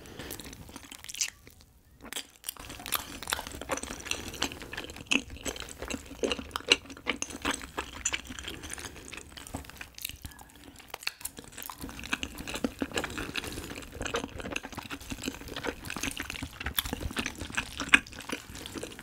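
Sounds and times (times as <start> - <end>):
sticky wet chewing: 0.3 - 19.0.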